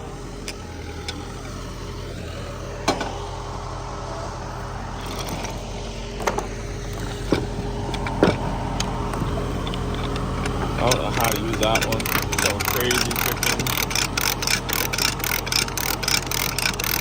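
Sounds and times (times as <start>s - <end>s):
metal clanks: 0.0s - 3.7s, 4.9s - 17.0s
engine idling: 0.0s - 17.0s.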